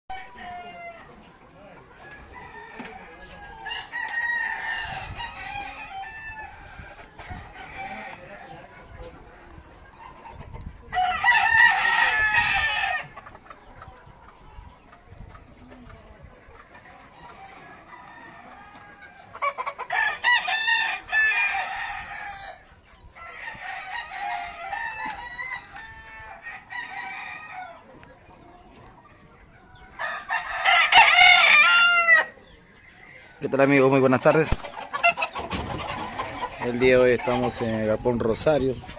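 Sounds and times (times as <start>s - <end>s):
roosters crowing: 0.1s - 14.1s, 16.8s - 28.2s, 28.8s - 38.9s.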